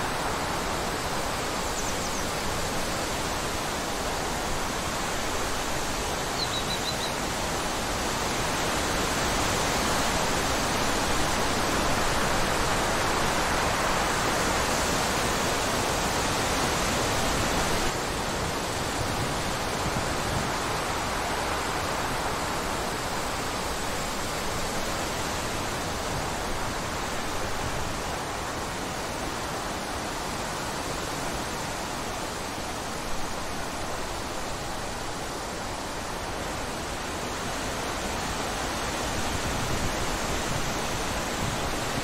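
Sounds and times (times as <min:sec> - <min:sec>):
wind rushing through trees: 0:00.0 - 0:42.0.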